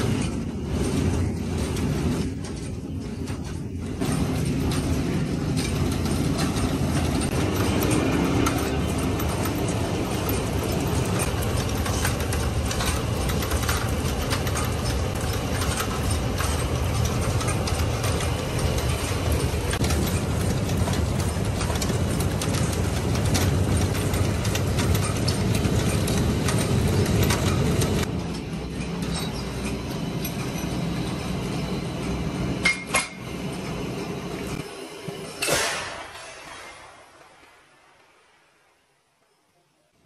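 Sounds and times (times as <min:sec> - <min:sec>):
roller chain and drum clattering: 0:00.0 - 0:37.2.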